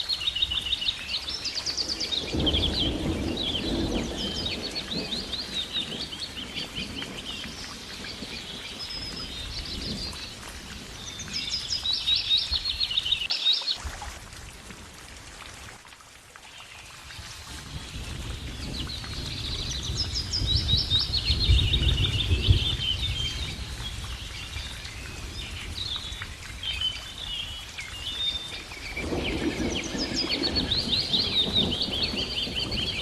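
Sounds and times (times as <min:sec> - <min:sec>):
songbirds chirping and trilling: 0:00.0 - 0:13.9, 0:18.0 - 0:33.0.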